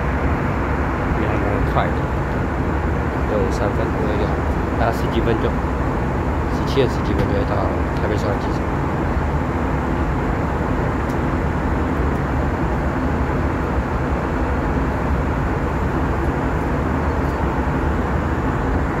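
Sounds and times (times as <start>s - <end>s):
jet airliner cabin noise: 0.0s - 19.0s.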